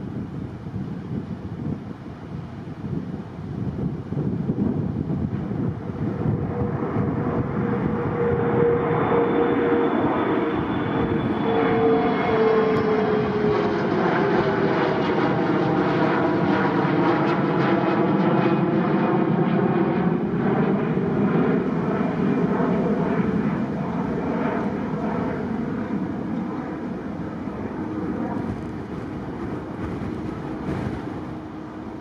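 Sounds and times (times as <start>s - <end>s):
jet engines roaring with whine: 0.0s - 32.0s.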